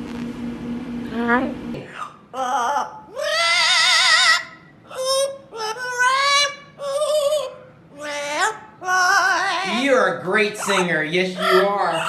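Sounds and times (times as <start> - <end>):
parrot singing with vibrato: 1.9 - 12.0.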